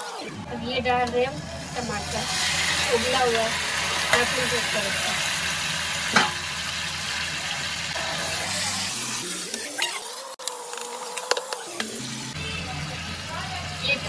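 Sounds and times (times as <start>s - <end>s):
tomatoes sizzling in butter: 1.4s - 14.0s.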